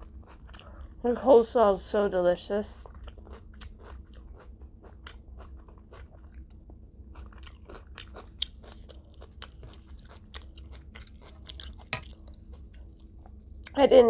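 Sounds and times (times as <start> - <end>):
chewing with crunches: 0.0 - 1.0, 2.8 - 13.8
low steady hum: 0.0 - 14.0.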